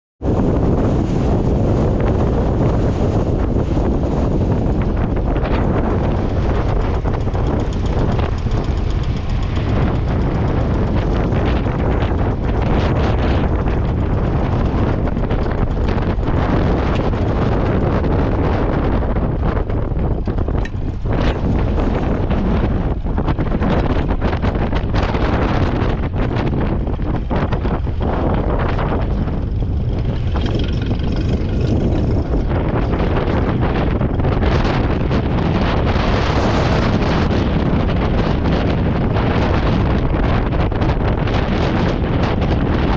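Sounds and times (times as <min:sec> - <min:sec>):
wind buffeting microphone: 0:00.2 - 0:42.9
tractor engine running: 0:00.3 - 0:42.9.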